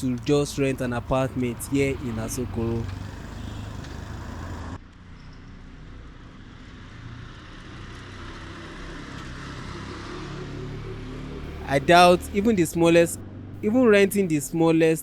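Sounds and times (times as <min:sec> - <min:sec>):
low rumble of cars: 0:00.0 - 0:15.0.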